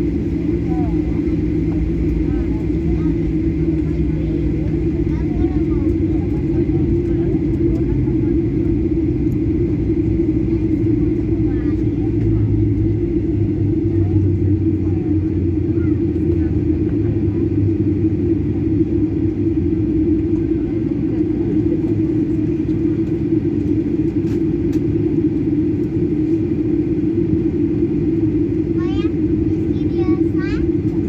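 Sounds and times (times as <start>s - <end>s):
jet engine drone in cabin: 0.0s - 31.0s.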